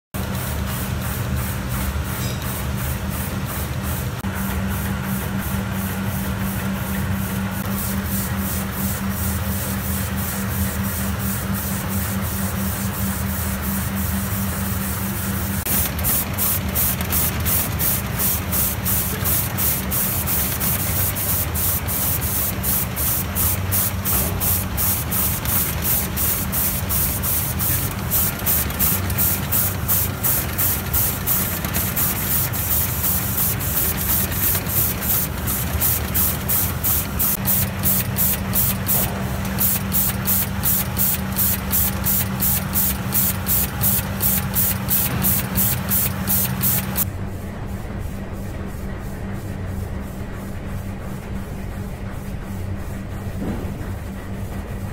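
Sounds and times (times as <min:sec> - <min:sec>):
steady machine hum: 0:00.2 - 0:54.9
quick repeating air hisses: 0:00.3 - 0:04.2, 0:05.2 - 0:47.1.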